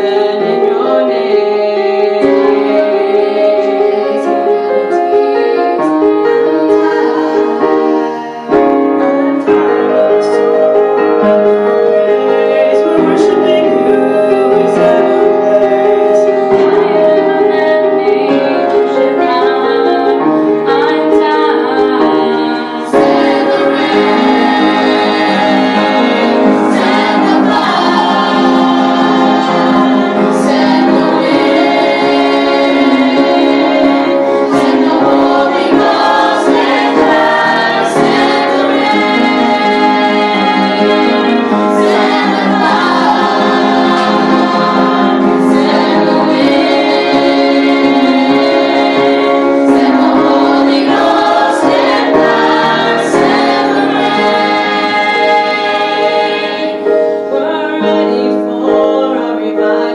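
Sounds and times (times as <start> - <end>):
gospel group singing in harmony: 0.0 - 59.9
instrumental accompaniment: 0.0 - 59.9.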